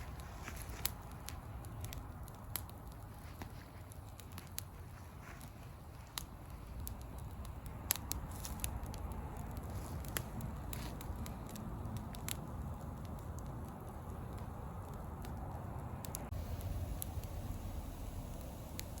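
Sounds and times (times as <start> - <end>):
bonfire crackling and popping: 0.0 - 19.0
low steady rumble: 0.0 - 19.0.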